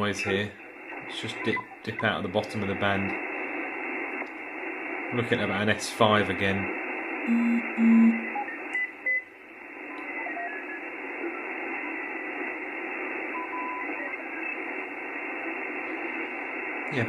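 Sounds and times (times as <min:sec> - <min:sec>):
radio receiver hissing band noise: 0:00.0 - 0:17.0.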